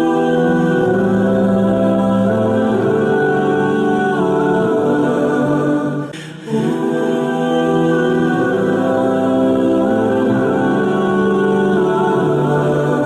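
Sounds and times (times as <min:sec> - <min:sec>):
slow choir-like music: 0:00.0 - 0:13.0.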